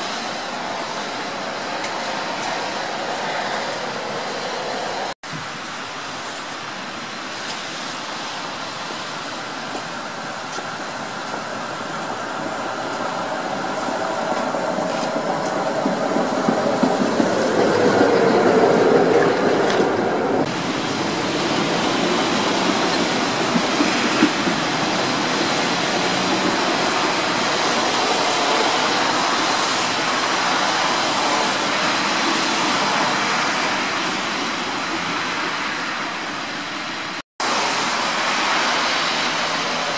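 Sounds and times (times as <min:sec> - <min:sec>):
steady rushing noise: 0:00.0 - 0:39.9
tram passing on rails: 0:00.0 - 0:39.9.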